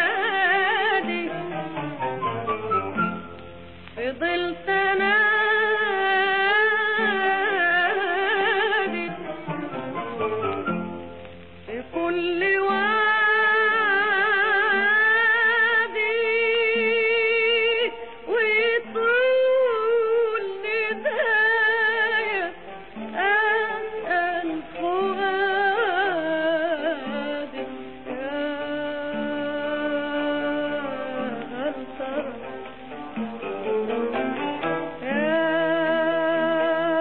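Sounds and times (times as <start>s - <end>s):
woman singing with vibrato: 0.0s - 3.2s, 3.9s - 10.8s, 11.6s - 37.0s
instrumental accompaniment: 0.0s - 37.0s.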